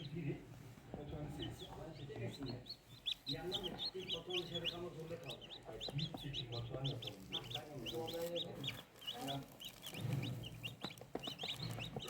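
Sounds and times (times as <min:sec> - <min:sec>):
chicken clucking: 0:00.0 - 0:12.0
chicks peeping: 0:00.0 - 0:12.0.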